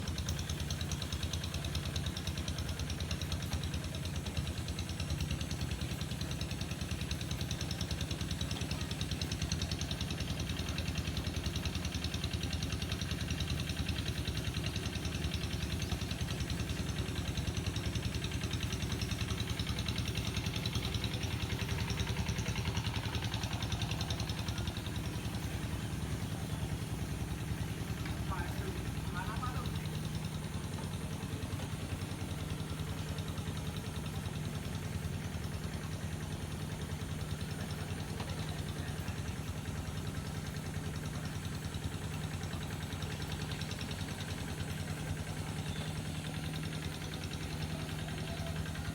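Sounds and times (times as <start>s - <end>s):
engine running steadily: 0.0s - 48.9s.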